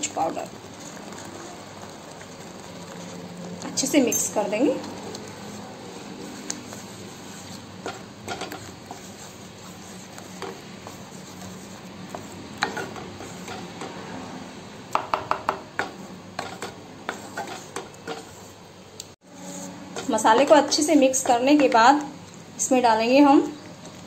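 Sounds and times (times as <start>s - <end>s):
spatula scraping a pan: 0.0s - 14.3s, 15.8s - 18.6s, 19.2s - 21.9s.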